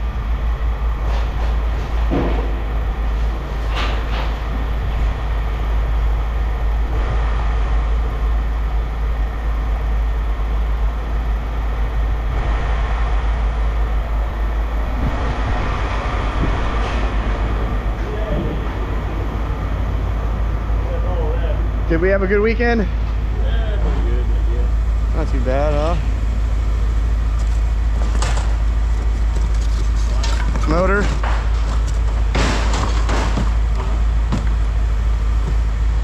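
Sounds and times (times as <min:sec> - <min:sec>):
heavy machinery rumbling: 0:00.0 - 0:36.0.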